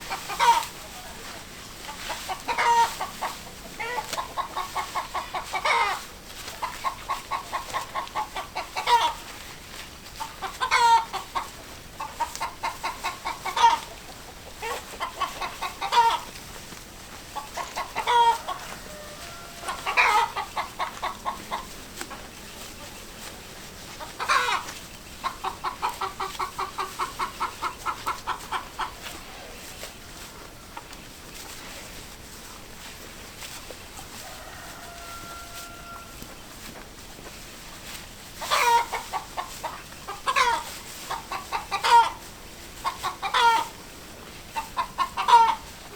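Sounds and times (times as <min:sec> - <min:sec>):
hen cackling: 0:00.0 - 0:09.3, 0:10.2 - 0:16.5, 0:17.2 - 0:30.9, 0:34.2 - 0:36.4, 0:38.4 - 0:43.9, 0:44.5 - 0:45.9.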